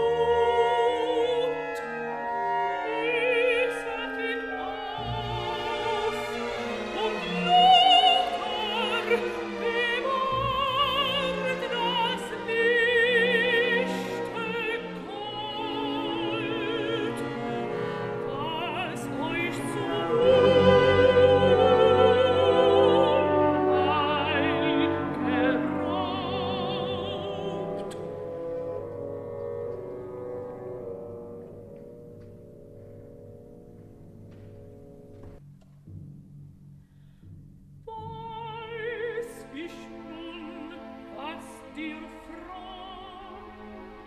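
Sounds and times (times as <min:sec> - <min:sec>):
operatic singing with orchestra: 0:00.0 - 0:32.0, 0:37.9 - 0:44.0.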